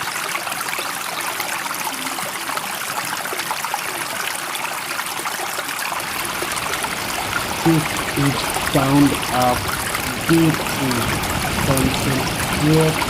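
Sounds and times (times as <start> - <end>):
running water rushing and trickling: 0.0 - 13.0.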